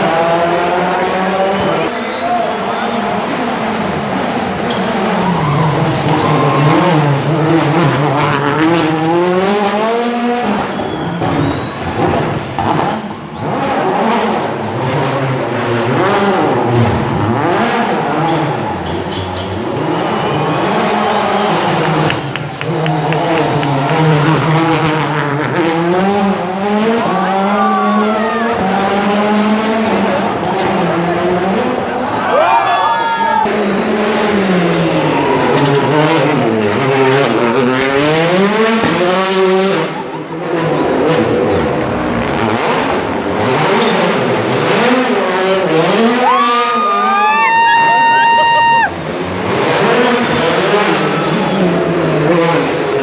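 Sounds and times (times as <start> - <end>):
rally car engine running hard: 0.0 - 32.1, 33.4 - 46.8, 48.0 - 53.0.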